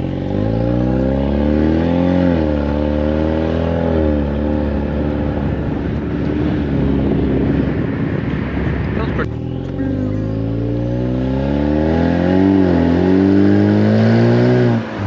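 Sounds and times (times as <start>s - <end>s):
car engine accelerating through gears: 0.0s - 15.0s.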